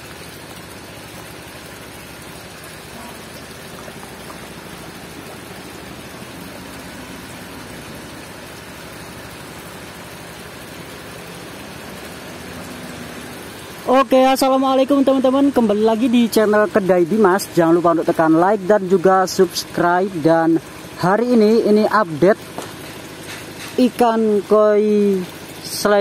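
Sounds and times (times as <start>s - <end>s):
pond water splashing and trickling: 0.0s - 26.0s.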